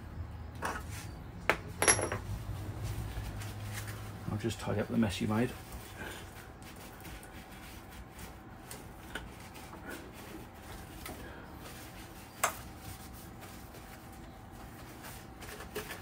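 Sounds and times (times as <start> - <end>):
handling noises of hands and tools: 0.6 - 5.0, 5.6 - 16.0.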